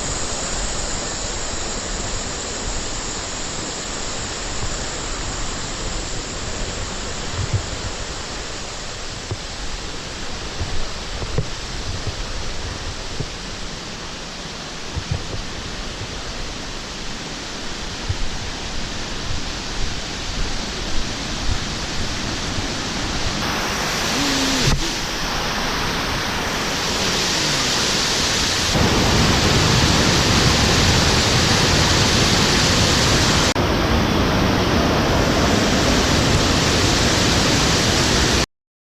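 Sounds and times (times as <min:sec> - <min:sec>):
running water rushing: 0:00.0 - 0:38.4.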